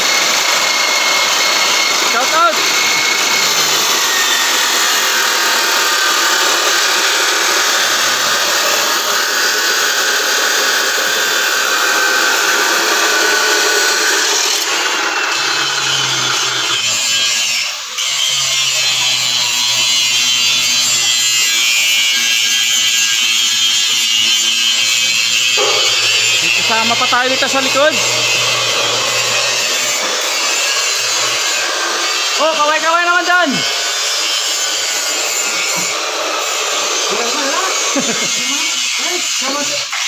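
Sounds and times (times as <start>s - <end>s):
abrasive saw cutting steel: 0.0s - 40.0s
handheld grinder grinding steel: 0.0s - 40.0s.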